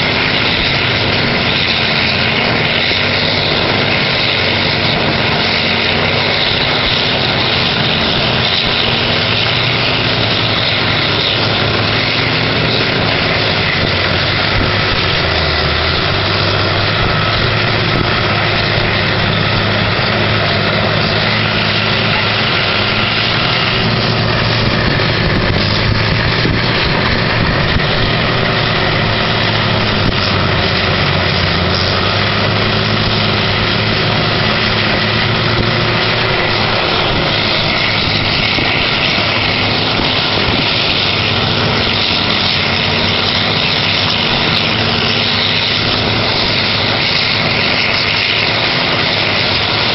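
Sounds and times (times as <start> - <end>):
diesel engine hum: 0.0 - 49.9
wood grinder running: 0.0 - 49.9.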